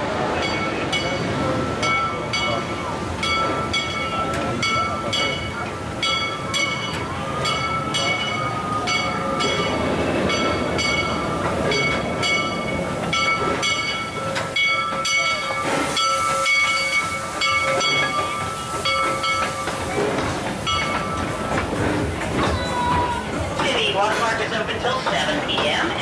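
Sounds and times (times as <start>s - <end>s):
steam locomotive train running past: 0.0s - 26.0s.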